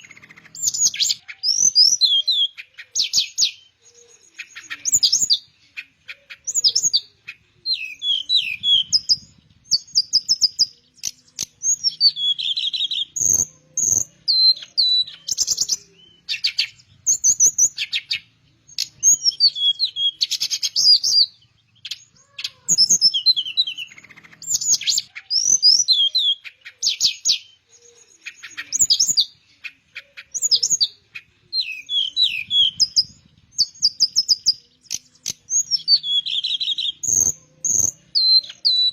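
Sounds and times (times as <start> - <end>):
songbird trilling and whistling: 0.0 - 38.9.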